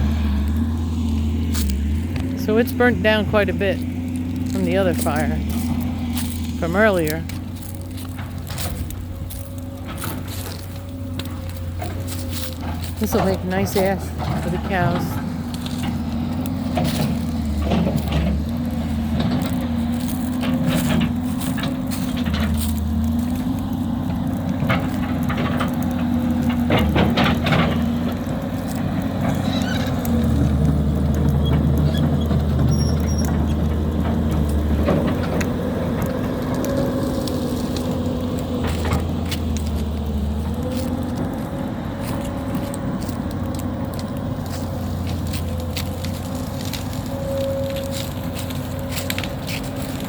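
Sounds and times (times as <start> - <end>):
heavy machine engine running: 0.0 - 50.0
sharp cracks and knocks: 3.4 - 50.0.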